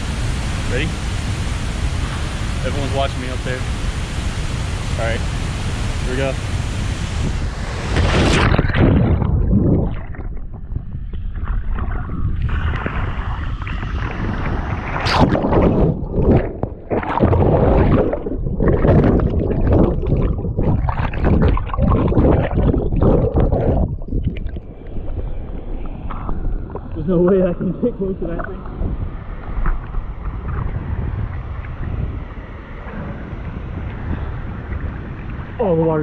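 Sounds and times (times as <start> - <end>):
falling water rumble: 0.0 - 36.0
water churning and gurgling: 0.0 - 36.0.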